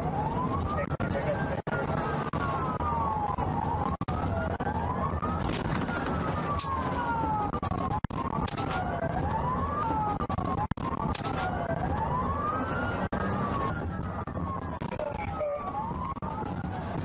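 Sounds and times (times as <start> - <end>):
car engine and road noise: 0.0 - 17.0
police siren wailing: 0.0 - 17.0.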